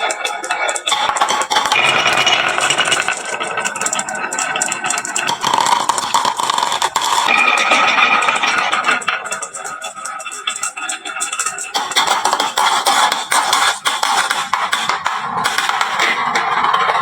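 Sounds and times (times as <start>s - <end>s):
marbles rolling down wooden run: 0.0s - 17.0s.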